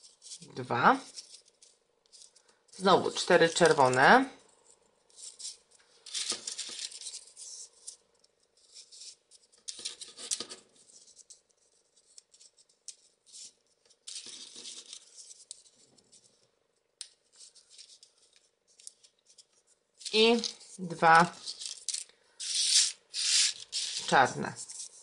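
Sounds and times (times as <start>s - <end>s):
paper rustling and crackling: 0.0s - 16.5s, 17.1s - 25.0s.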